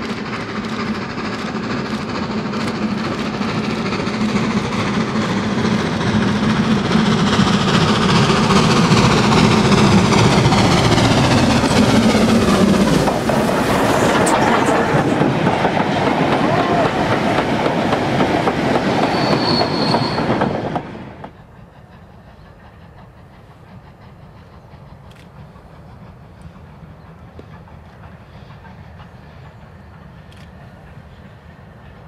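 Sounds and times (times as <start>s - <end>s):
steam locomotive exhaust: 0.0s - 32.0s.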